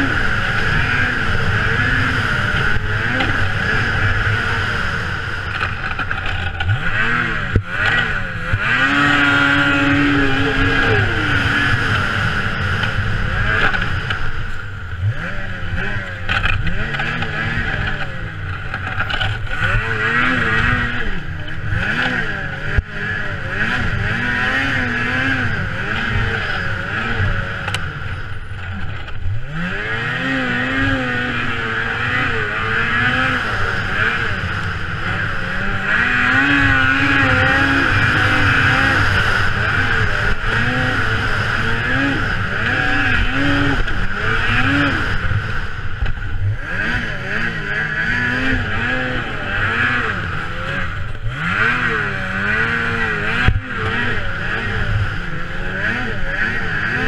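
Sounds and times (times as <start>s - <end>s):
snowmobile engine revving: 0.0s - 57.0s
steady high whine: 0.0s - 57.0s.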